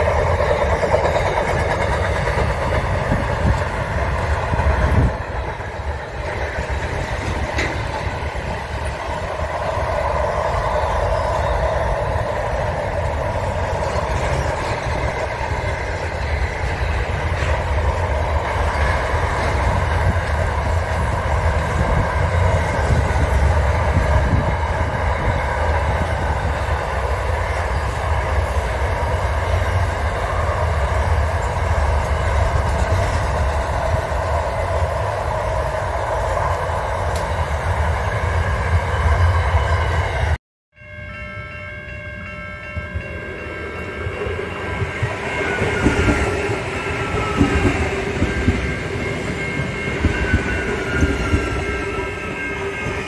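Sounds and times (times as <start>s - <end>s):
freight train rolling rumble: 0.0s - 40.4s, 41.9s - 53.0s.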